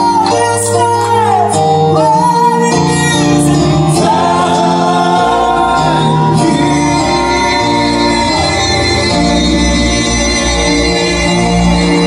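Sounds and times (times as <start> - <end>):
male vocal quartet singing harmony: 0.0 - 12.0
piano accompaniment: 0.0 - 12.0.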